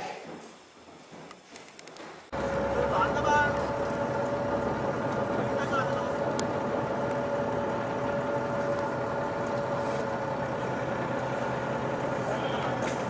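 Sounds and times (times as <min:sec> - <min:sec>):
vehicle engine running: 0:02.3 - 0:13.0.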